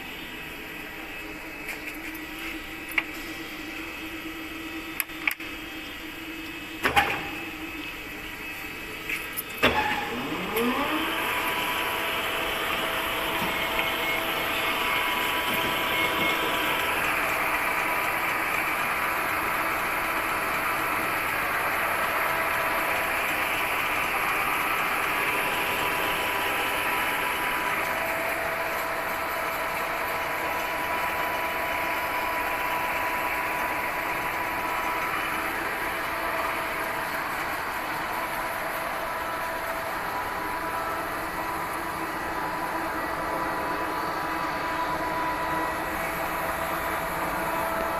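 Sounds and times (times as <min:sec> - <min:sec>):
lathe motor whine and hum: 0:00.0 - 0:47.9.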